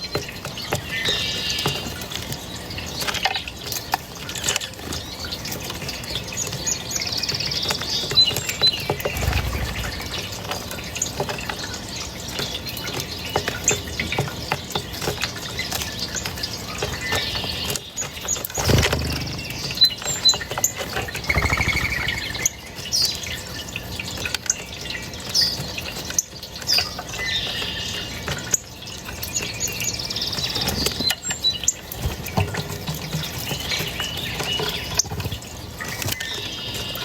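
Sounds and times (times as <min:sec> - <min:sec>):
small birds chirping: 0:00.0 - 0:31.9
running water: 0:00.0 - 0:37.0.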